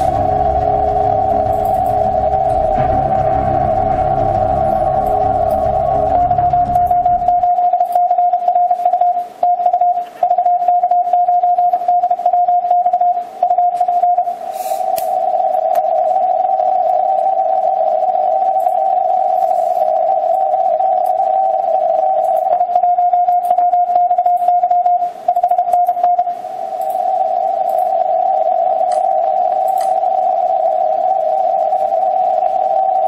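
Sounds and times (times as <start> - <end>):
morse code tones: 0.0 - 14.4, 15.0 - 33.0.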